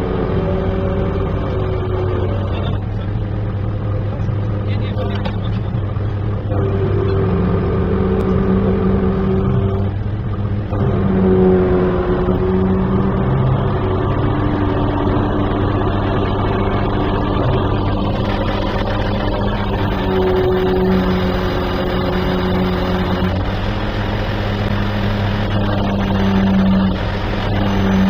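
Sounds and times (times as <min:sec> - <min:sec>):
crane engine running under load: 0:00.0 - 0:28.0.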